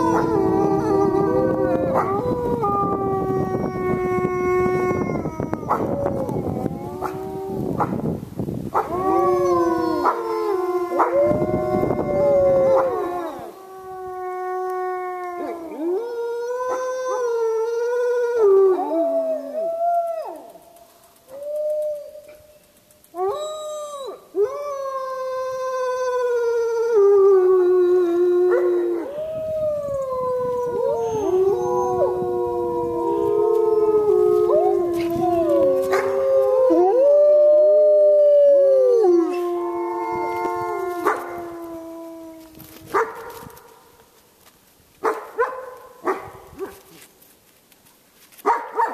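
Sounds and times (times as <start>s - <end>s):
wolves howling: 0.0s - 7.9s, 8.8s - 20.6s, 23.2s - 43.4s.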